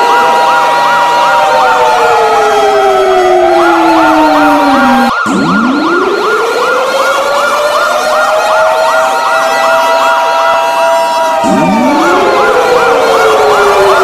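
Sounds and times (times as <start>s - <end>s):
fast warbling siren: 0.0s - 14.0s
steady high siren tone: 0.0s - 14.0s
wailing siren: 0.0s - 14.0s.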